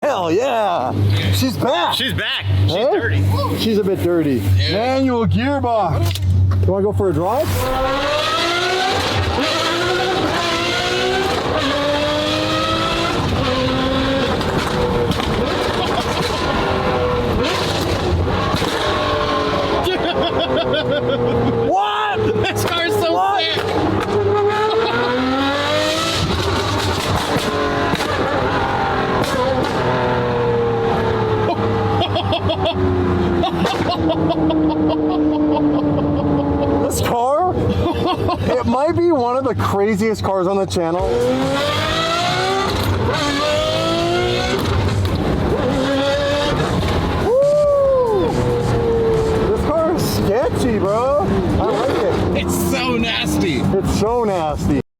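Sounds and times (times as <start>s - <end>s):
car engine accelerating hard: 7.0s - 38.2s, 40.8s - 54.8s.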